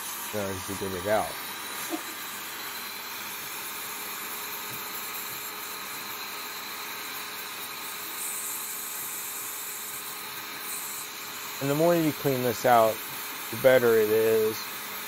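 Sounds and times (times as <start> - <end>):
electric brush hissing: 0.0 - 15.0.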